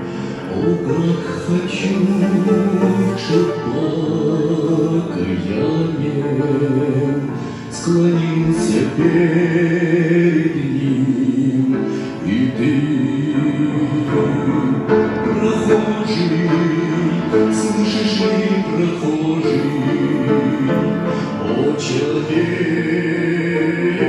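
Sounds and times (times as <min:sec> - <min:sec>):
hymn sung with accompaniment: 0:00.0 - 0:24.0.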